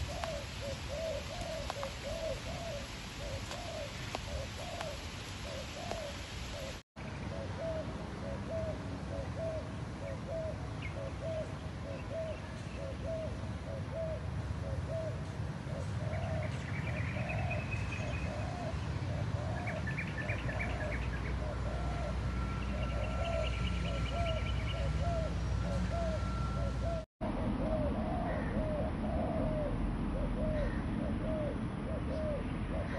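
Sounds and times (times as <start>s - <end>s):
small birds chirping: 0.0s - 22.0s, 22.6s - 27.1s
doves cooing: 0.0s - 32.9s.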